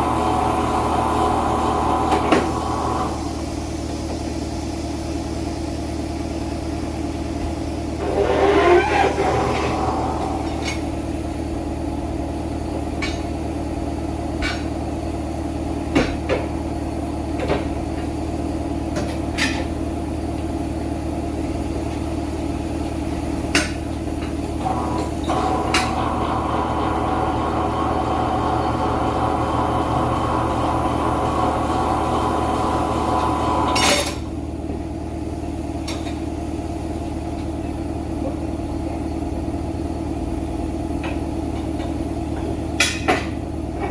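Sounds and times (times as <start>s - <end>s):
shop machine humming: 0.0s - 3.9s, 6.8s - 43.9s.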